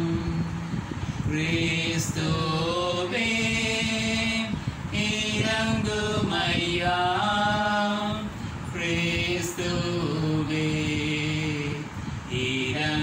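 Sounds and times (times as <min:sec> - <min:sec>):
man singing a slow chant: 0:00.0 - 0:13.0.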